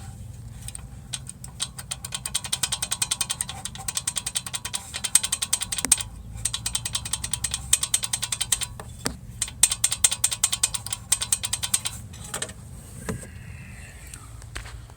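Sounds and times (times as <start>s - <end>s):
engine humming low: 0.0s - 14.9s
metallic rattling clicks: 0.4s - 12.6s.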